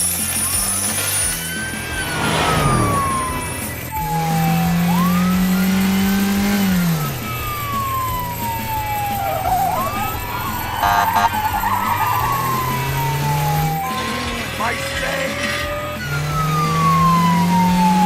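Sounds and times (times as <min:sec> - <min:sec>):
car engine hum: 0:00.0 - 0:18.0
police siren wailing: 0:00.0 - 0:18.0.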